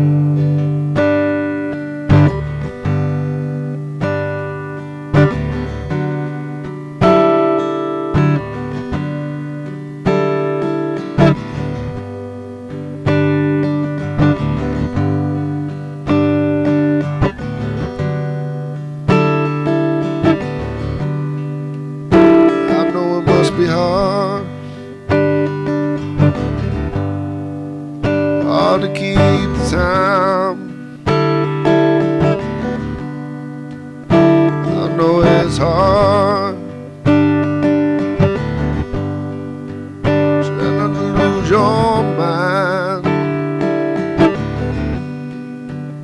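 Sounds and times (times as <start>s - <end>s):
acoustic guitar strumming chords: 0.0s - 46.0s.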